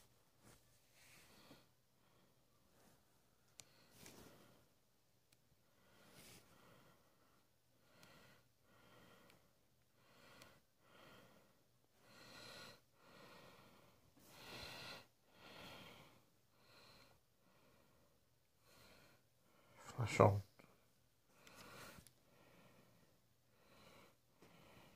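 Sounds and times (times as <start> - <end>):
person breathing: 0.4 - 4.8, 5.6 - 19.8, 20.7 - 24.9.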